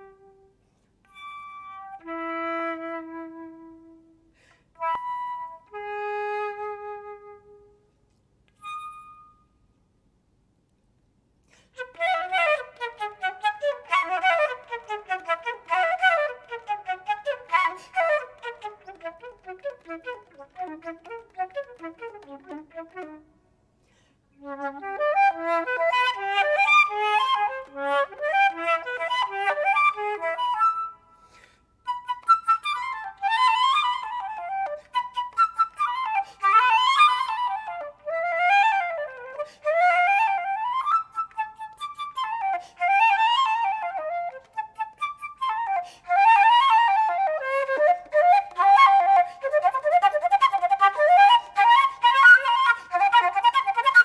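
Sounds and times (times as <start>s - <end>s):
flute playing classical piece: 0.0s - 9.8s, 11.6s - 23.4s, 24.4s - 54.0s.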